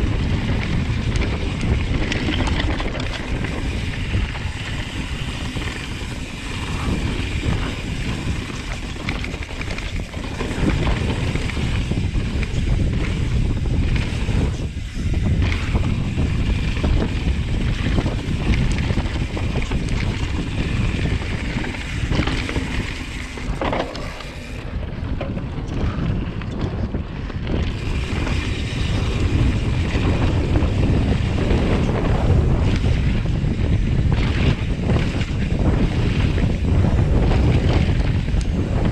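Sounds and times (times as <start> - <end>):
bike rattling over bumps: 0.0 - 38.9
bike tyres rolling over gravel: 0.0 - 38.9
wind buffeting microphone: 0.0 - 38.9.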